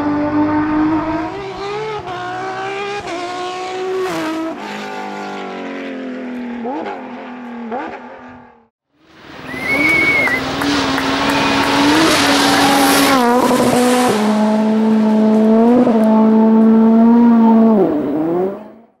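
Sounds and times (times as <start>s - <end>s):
rally car engine revving: 0.0s - 8.7s, 9.3s - 19.0s.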